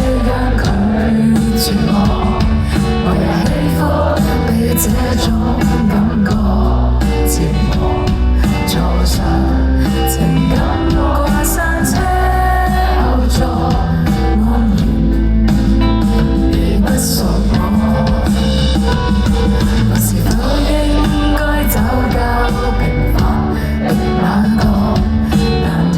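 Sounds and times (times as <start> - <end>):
live band playing: 0.0 - 25.9
person singing: 0.0 - 25.9.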